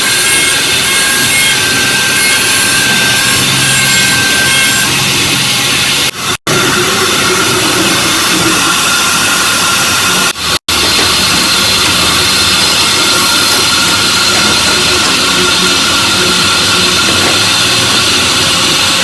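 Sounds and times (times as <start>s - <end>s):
router spindle cutting: 0.0s - 19.0s.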